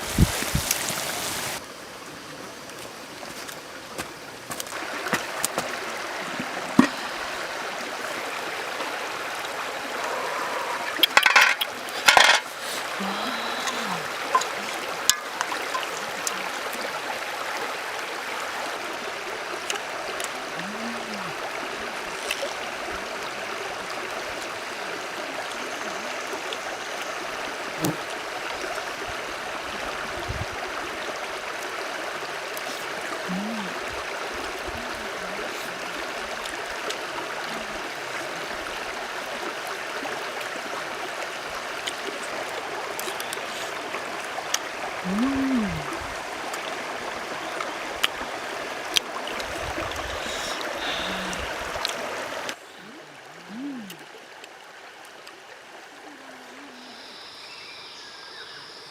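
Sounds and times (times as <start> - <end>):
stream water rushing and gurgling: 0.0 - 58.9.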